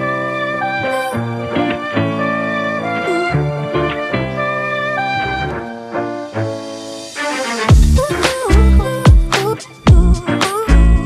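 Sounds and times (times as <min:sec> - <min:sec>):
sustained instrumental music: 0:00.0 - 0:10.8.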